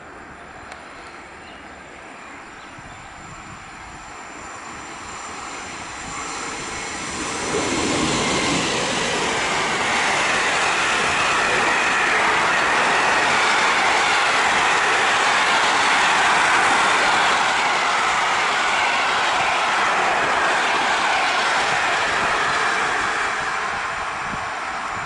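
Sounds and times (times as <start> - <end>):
train wheels on rails: 0.1 - 25.0.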